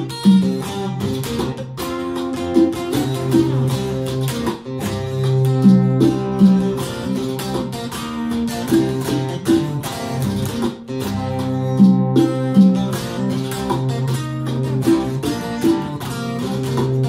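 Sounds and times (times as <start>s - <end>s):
electric guitar strumming chords: 0.0s - 17.0s.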